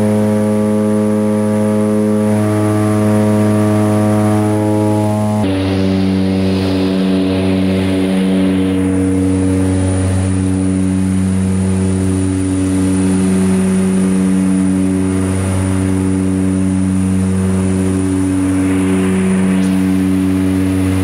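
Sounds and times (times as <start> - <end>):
propeller and engine drone: 0.0 - 21.0
engine and air hiss: 1.5 - 21.0.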